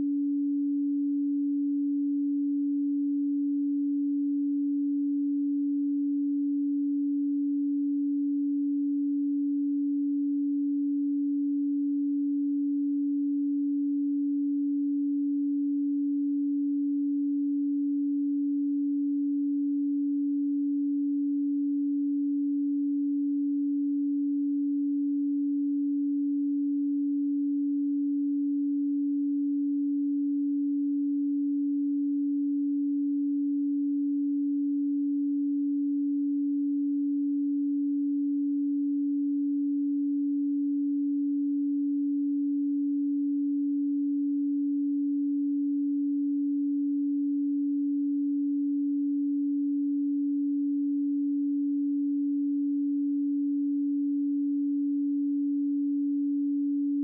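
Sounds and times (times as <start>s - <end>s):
electronic sine tone: 0.0s - 57.0s.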